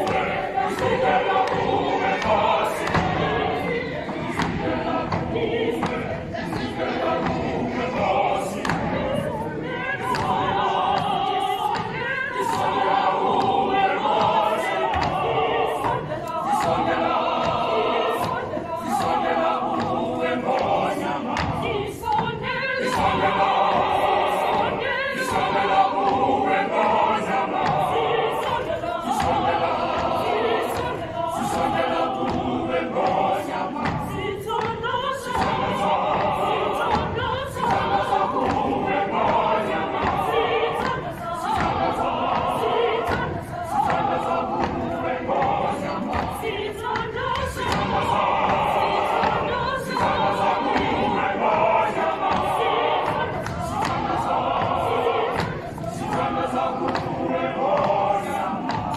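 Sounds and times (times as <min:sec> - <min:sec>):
large choir singing: 0:00.0 - 0:58.9.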